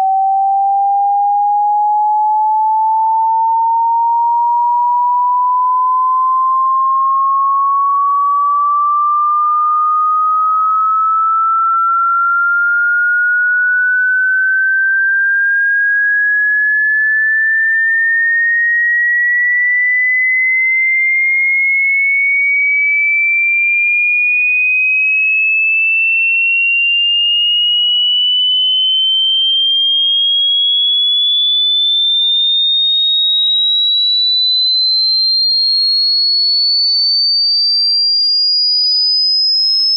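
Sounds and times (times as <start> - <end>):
rising sine tone sweep: 0.0 - 23.0, 26.2 - 39.9.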